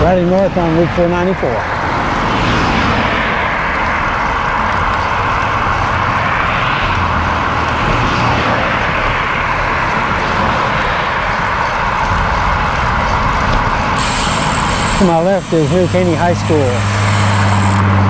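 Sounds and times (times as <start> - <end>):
highway traffic noise: 0.0 - 18.0.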